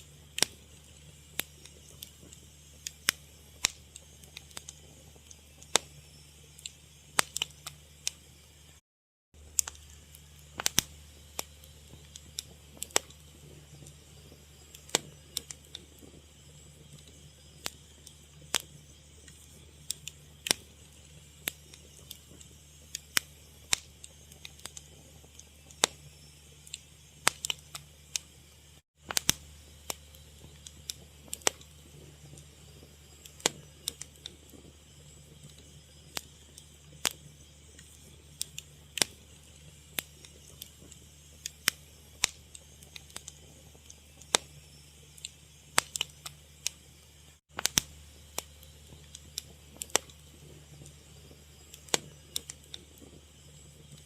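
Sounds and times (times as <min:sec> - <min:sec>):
fire crackling and popping: 0:00.0 - 0:08.8, 0:09.4 - 0:54.0.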